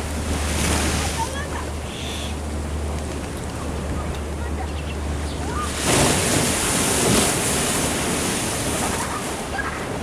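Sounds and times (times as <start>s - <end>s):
wave washing against sea wall: 0.0s - 10.0s.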